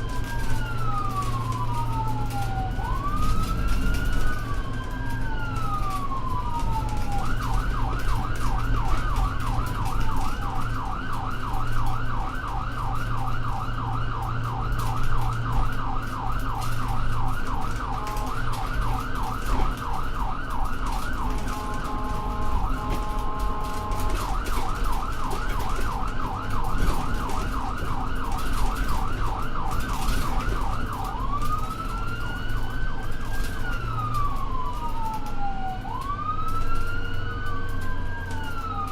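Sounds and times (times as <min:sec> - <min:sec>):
ambulance siren wailing and yelping: 0:00.0 - 0:38.9
vehicle engine rumble: 0:00.0 - 0:38.9.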